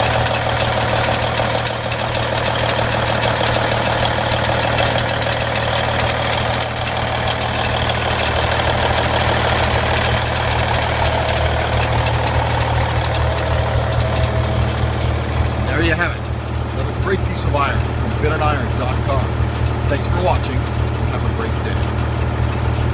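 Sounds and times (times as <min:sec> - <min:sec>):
diesel truck engine idling: 0:00.0 - 0:22.9
fast light ticking clatter: 0:00.0 - 0:22.9.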